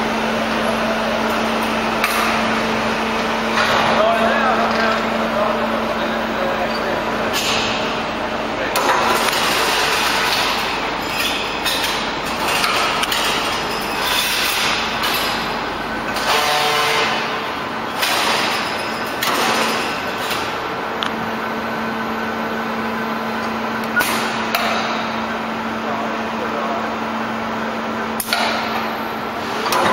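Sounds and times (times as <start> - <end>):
machinery hum: 0.0 - 29.9.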